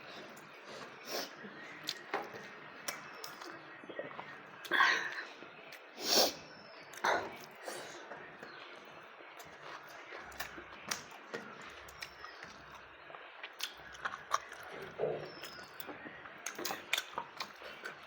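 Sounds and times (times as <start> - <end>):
person chewing crunchy food: 0.0 - 5.8, 6.9 - 18.0.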